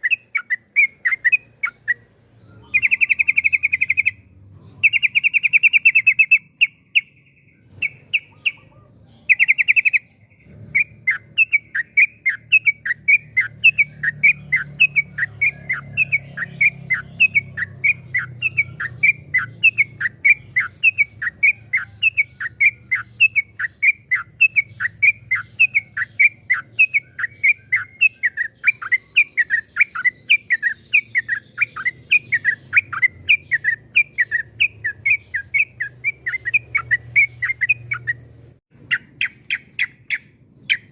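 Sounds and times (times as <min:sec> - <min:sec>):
bird singing trilled notes: 0:00.0 - 0:40.9.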